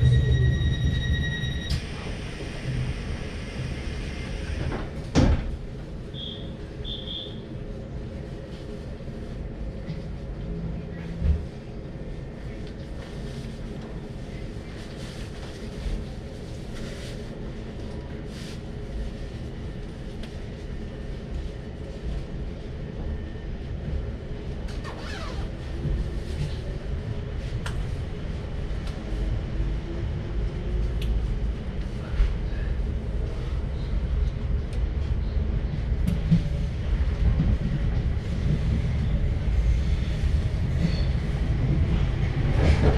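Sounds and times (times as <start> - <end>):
train rumble inside carriage: 0.0 - 42.9.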